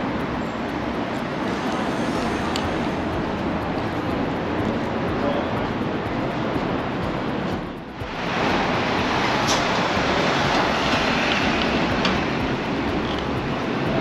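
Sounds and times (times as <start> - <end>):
box truck passing: 0.0 - 14.0
city street traffic: 0.0 - 14.0.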